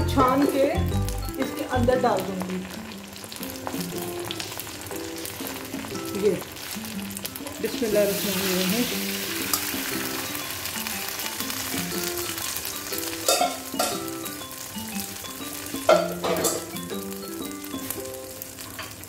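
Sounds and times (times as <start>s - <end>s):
hot oil sizzling and bubbling: 0.0s - 19.0s.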